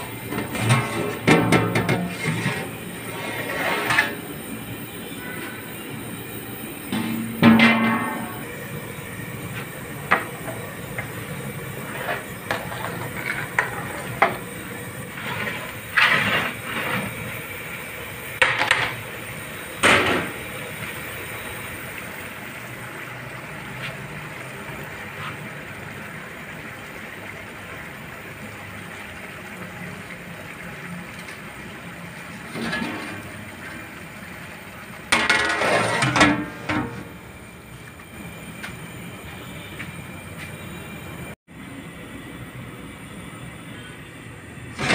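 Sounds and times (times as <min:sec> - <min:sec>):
pot of rice boiling: 0:00.0 - 0:44.9.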